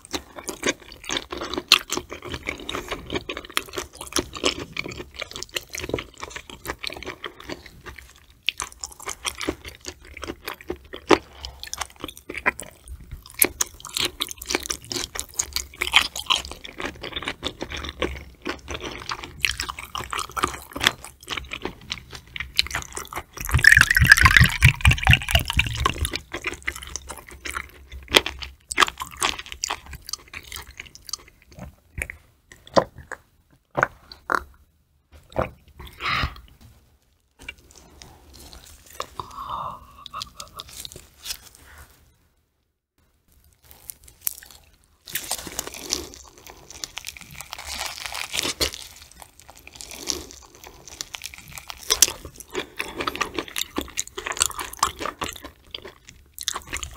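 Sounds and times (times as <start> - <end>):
wet chewing and mouth clicks: 0.0 - 34.7, 37.4 - 41.4, 43.4 - 56.9.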